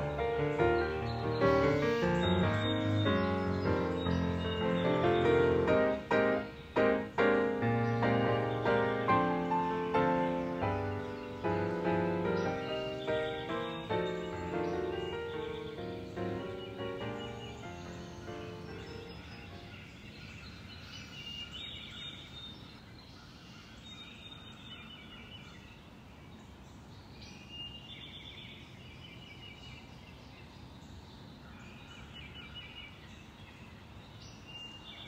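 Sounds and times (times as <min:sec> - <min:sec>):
birds chirping: 0:00.0 - 0:35.0
low outdoor background hum: 0:00.0 - 0:35.0.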